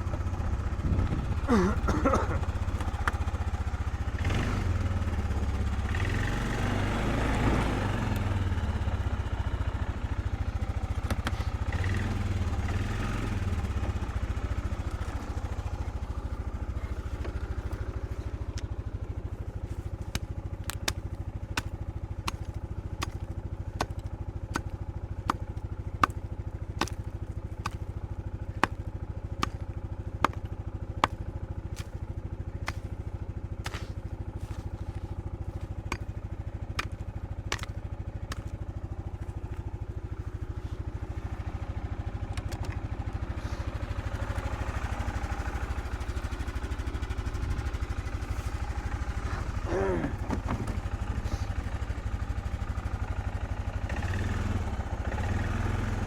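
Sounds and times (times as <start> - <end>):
small engine idling: 0.0 - 56.0.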